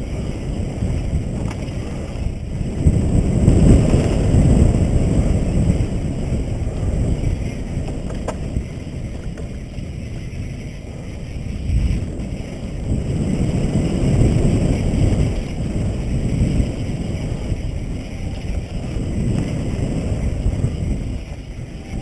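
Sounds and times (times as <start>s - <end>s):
faint bike clicks: 0.0s - 22.0s
wind buffeting microphone: 0.0s - 22.0s.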